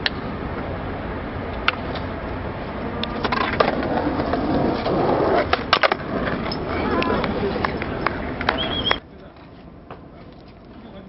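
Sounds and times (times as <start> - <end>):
city street background: 0.0 - 11.0
skateboard wheels rolling on pavement: 0.0 - 11.0.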